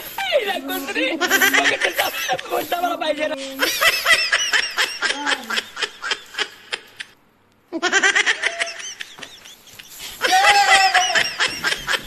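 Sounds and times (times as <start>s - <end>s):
man laughing high-pitched: 0.1s - 7.0s, 7.8s - 12.0s.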